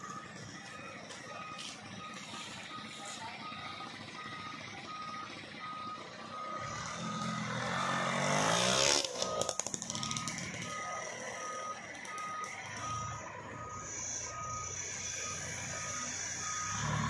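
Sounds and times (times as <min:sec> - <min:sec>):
truck engine revving: 0:00.0 - 0:17.0
truck reversing alarm beeps: 0:00.0 - 0:17.0.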